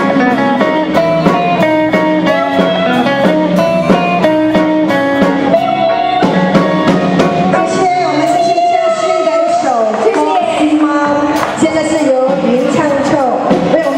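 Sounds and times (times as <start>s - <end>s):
drum kit beat: 0.0s - 13.9s
guitar: 0.0s - 13.9s.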